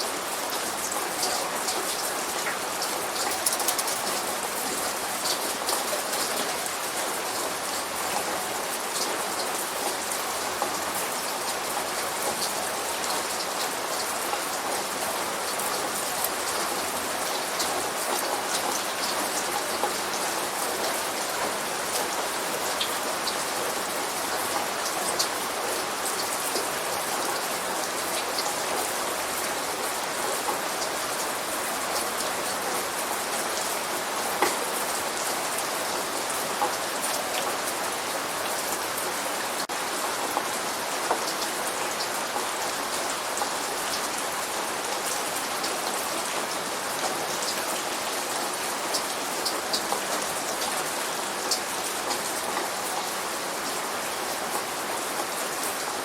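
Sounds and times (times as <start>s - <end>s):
light rain falling: 0.0s - 56.0s
raindrops ticking on a surface: 0.0s - 56.0s.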